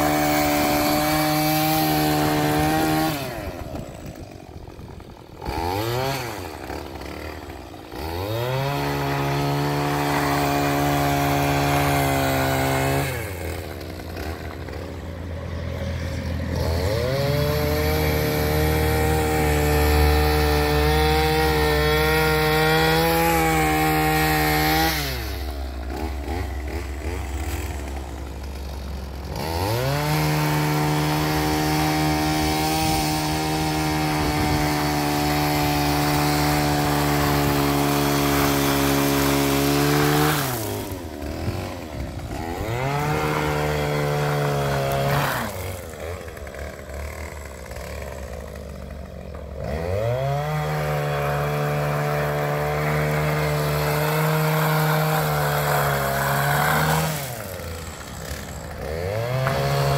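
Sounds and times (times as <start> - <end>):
two-stroke engine running: 0.0 - 59.9.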